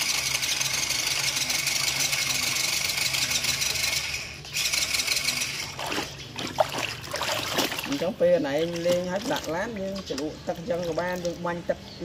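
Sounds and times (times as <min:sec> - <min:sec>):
electric motor and gears whirring: 0:00.0 - 0:11.6.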